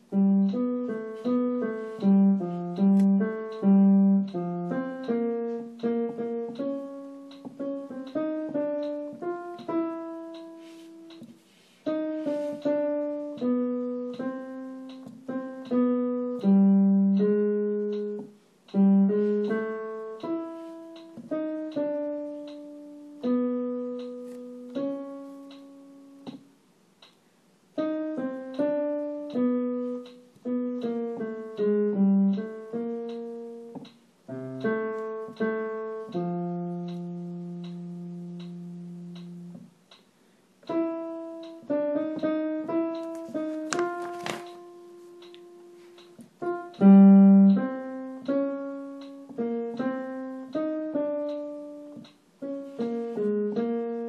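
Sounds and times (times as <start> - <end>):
piano melody: 0.0 - 54.0.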